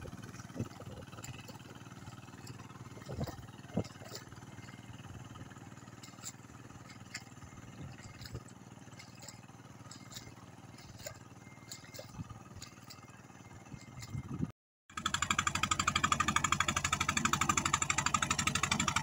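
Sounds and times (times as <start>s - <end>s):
tractor engine chugging: 0.0s - 19.0s.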